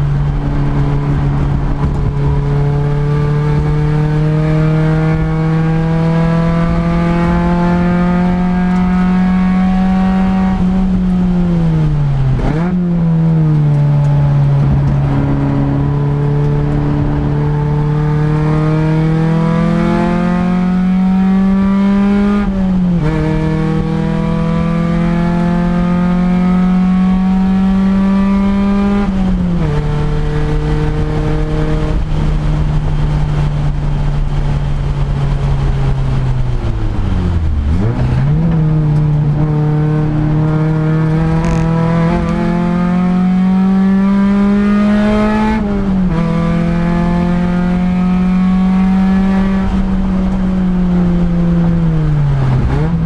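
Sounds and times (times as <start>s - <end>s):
race car engine at speed: 0.0s - 53.0s.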